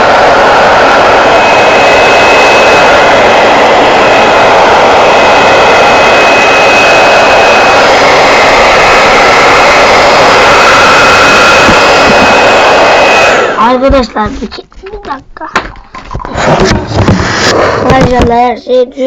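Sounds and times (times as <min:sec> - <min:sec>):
hair dryer blowing air: 0:00.0 - 0:13.8, 0:16.3 - 0:18.0
hair dryer motor whine: 0:00.0 - 0:13.8, 0:16.4 - 0:17.9.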